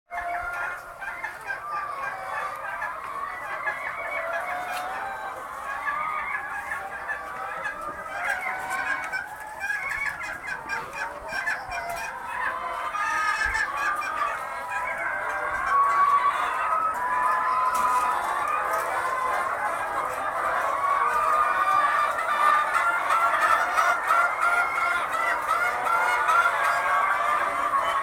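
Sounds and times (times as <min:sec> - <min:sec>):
flock of birds calling: 0:00.1 - 0:28.0.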